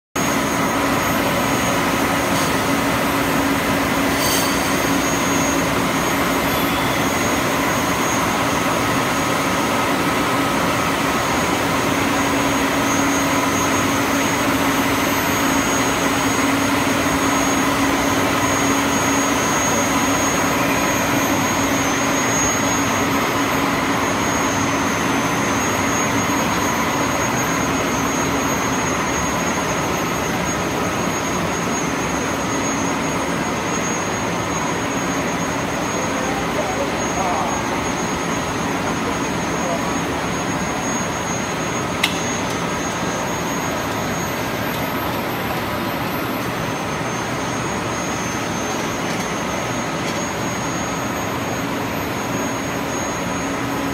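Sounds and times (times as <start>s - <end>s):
loud machine noise with whine: 0.1s - 53.9s.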